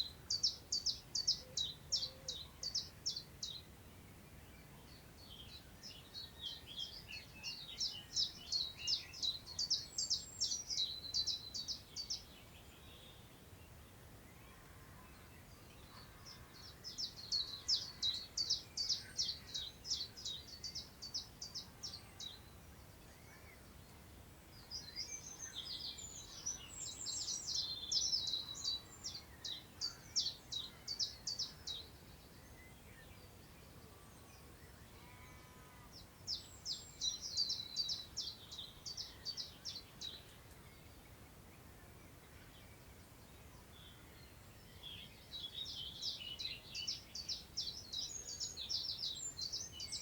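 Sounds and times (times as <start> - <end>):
faint wind through grass: 0.0 - 50.0.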